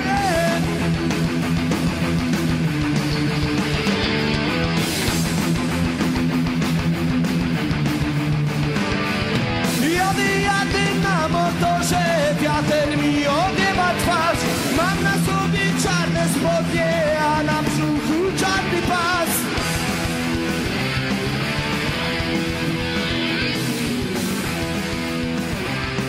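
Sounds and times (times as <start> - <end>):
bending guitar lead melody: 0.0 - 26.0
guitar chords: 0.0 - 26.0.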